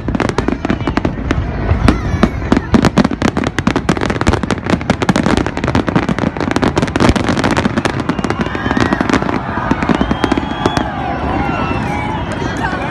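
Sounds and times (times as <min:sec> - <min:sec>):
fireworks bangs and crackling: 0:00.0 - 0:12.9.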